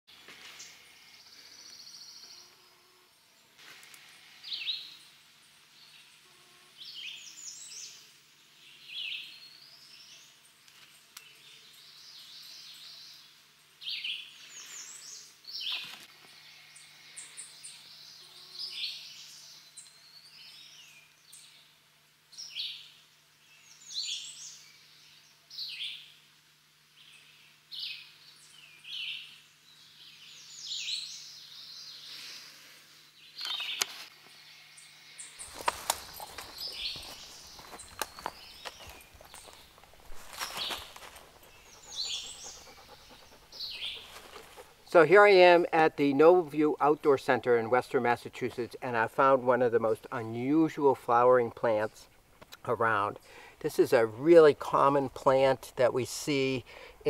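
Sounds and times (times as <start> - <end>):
faint background hiss: 0.1 - 57.0
songbirds singing: 4.2 - 57.0.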